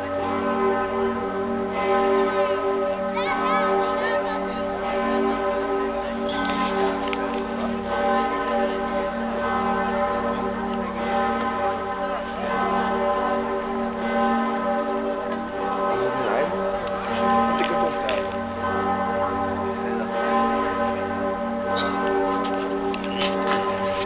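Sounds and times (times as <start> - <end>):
large bell swinging and ringing: 0.0 - 24.0.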